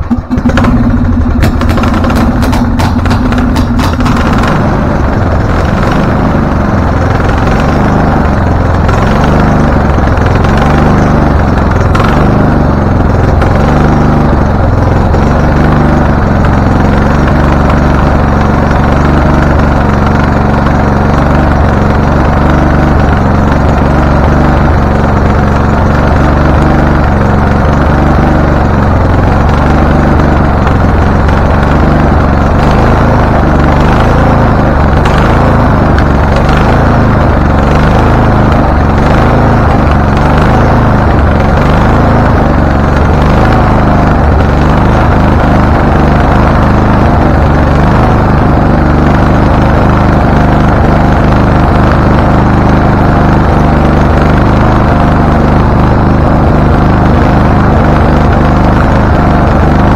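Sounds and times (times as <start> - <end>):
riding mower engine running unevenly: 0.0 - 59.9.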